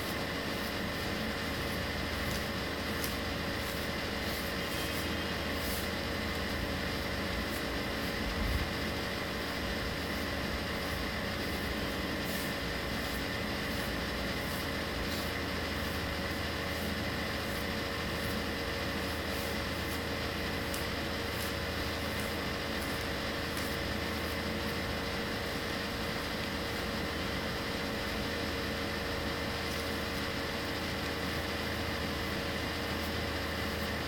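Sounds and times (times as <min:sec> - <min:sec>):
room hum and hiss: 0:00.0 - 0:34.0.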